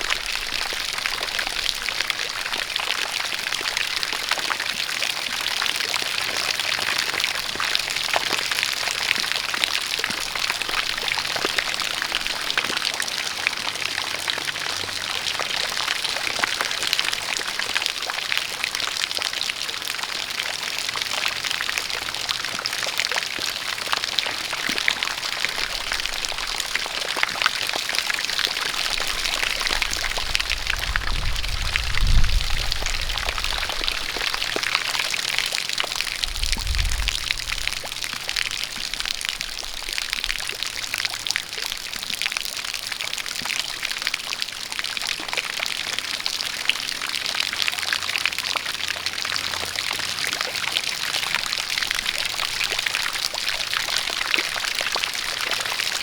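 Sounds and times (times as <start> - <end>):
raindrops ticking: 0.0 - 56.0.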